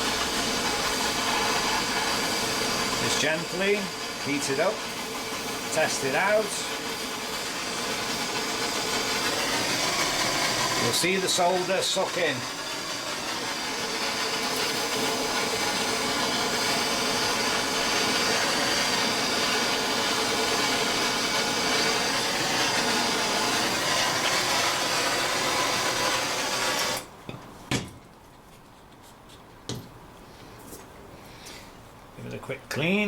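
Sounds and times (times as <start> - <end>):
blowtorch flame hissing: 0.0 - 27.1.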